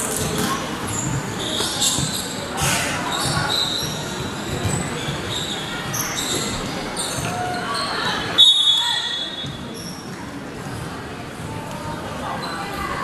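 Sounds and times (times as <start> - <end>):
sneakers squeaking on floor: 0.1 - 10.9, 12.4 - 13.0.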